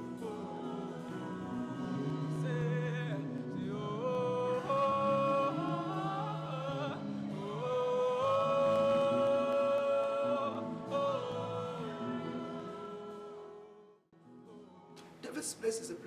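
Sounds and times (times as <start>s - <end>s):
choir singing held notes: 0.0s - 13.8s.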